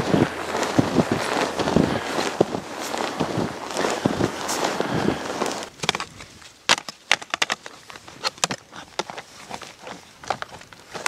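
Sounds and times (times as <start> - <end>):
clicks and knocks of snowshoes: 0.0 - 11.0
footsteps crunching in snow: 0.0 - 11.0.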